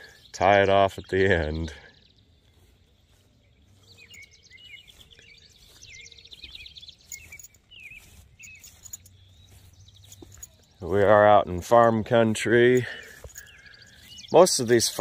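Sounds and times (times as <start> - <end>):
faint rural ambience: 0.0 - 15.0
songbird chirping: 0.0 - 15.0.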